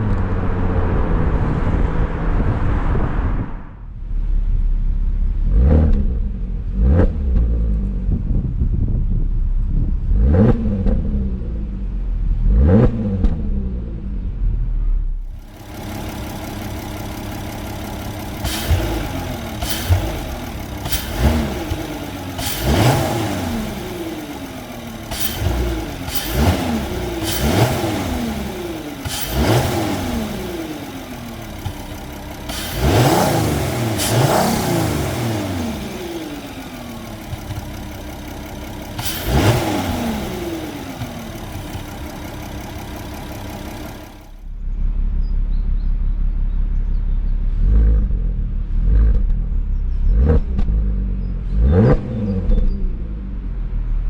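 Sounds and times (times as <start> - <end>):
engine revving in throttle blips: 5.2 - 54.0.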